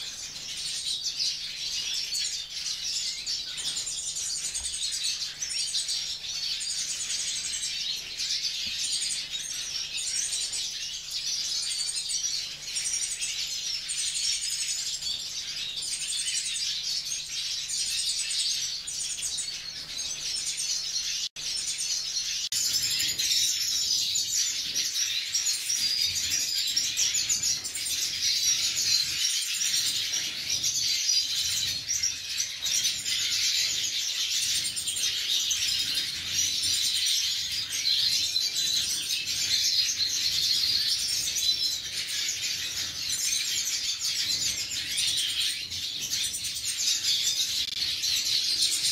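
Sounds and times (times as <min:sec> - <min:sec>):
birds chirping and twittering: 0:00.0 - 0:48.9.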